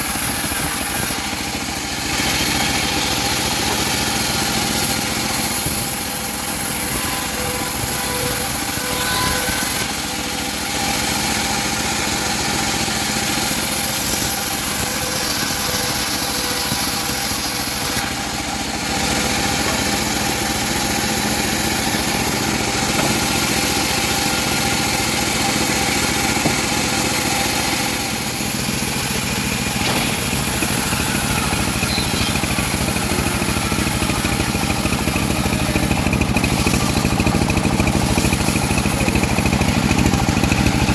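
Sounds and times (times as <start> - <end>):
bandsaw sawing through log: 0.0 - 40.9.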